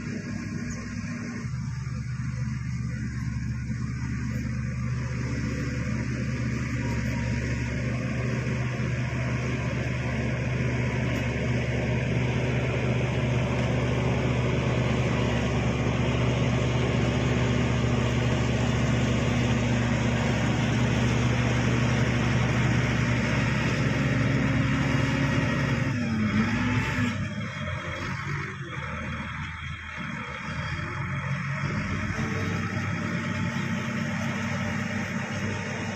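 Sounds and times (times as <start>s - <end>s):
bulldozer diesel engine droning: 0.0s - 35.9s.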